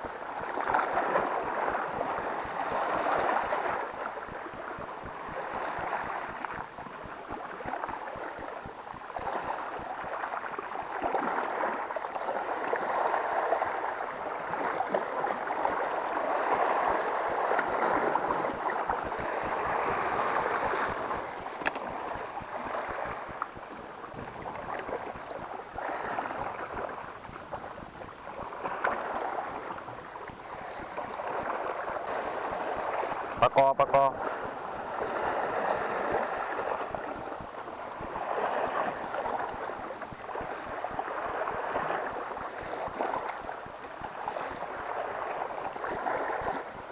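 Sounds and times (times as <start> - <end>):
sea waves splashing over rocks: 0.0 - 46.9.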